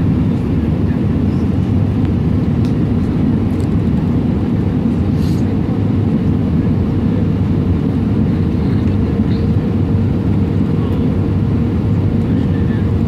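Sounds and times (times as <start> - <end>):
constant hum: 0.0 - 13.0
low engine rumble: 0.0 - 13.0.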